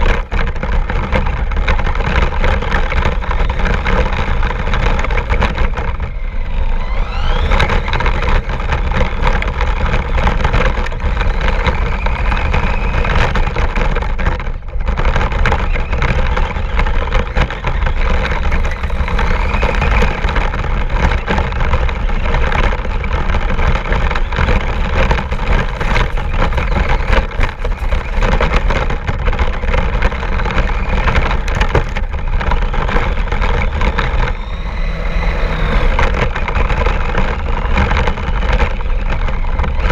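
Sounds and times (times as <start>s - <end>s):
rc car rattle and rumble: 0.0s - 39.9s
motor whine: 1.4s - 14.5s, 15.2s - 39.9s.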